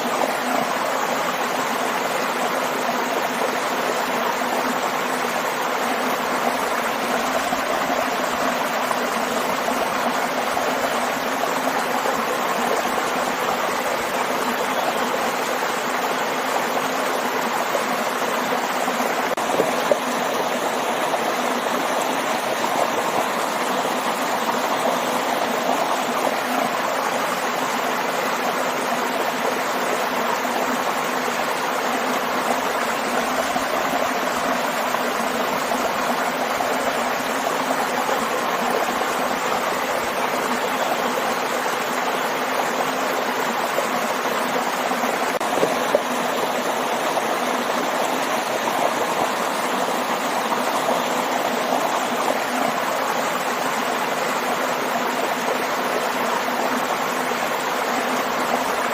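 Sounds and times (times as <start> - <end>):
waterfall water rushing: 0.0 - 58.9.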